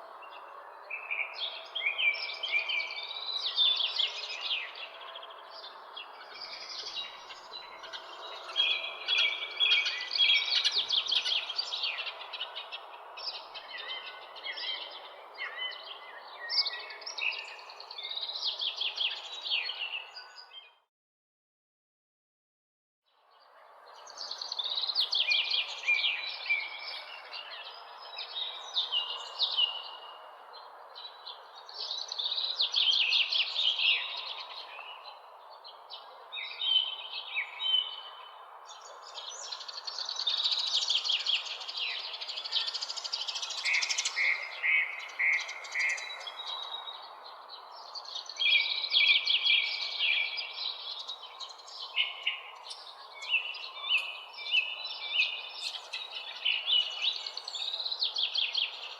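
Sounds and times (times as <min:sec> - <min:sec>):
songbirds chirping and singing: 0:00.0 - 0:20.8, 0:23.1 - 0:58.9.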